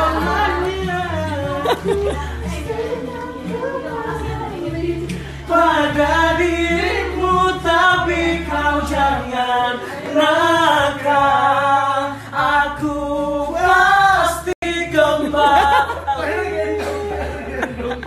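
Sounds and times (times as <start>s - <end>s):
people singing together: 0.0s - 18.0s.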